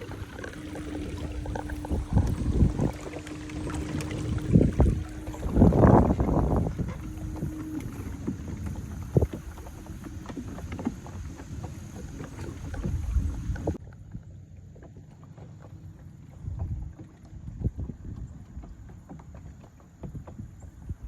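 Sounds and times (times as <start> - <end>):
wind on microphone: 0.0 - 13.8, 16.4 - 18.9, 20.0 - 21.0
water sloshing: 0.0 - 21.0.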